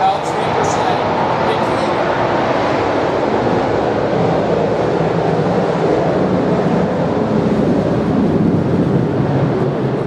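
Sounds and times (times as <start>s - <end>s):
turbine aircraft flying over: 0.0s - 10.0s.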